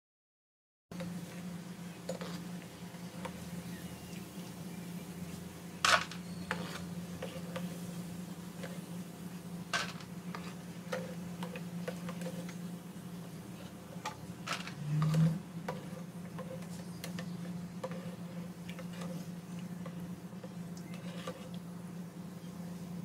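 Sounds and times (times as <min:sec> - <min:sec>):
steady low hum: 0:00.9 - 0:23.0.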